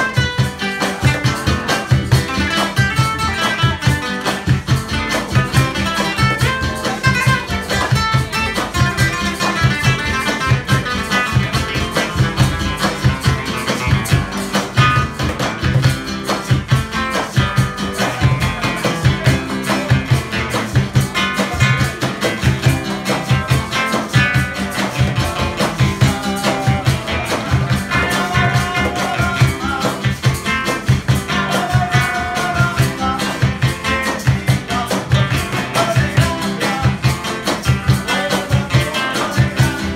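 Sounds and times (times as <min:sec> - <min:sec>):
acoustic guitars strummed: 0:00.0 - 0:39.9
cajon beat: 0:00.0 - 0:39.9.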